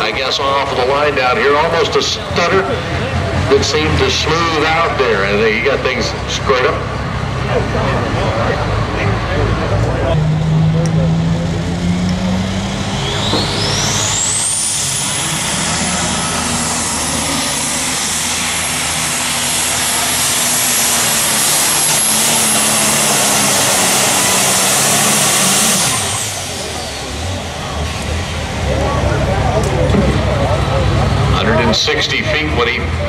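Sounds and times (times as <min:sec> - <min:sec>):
loud high whine: 0:00.0 - 0:33.0
tractor engine at full power: 0:00.0 - 0:33.0.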